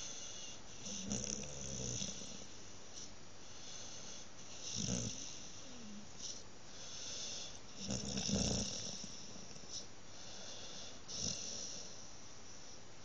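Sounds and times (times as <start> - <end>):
dog snoring: 0.0 - 12.1.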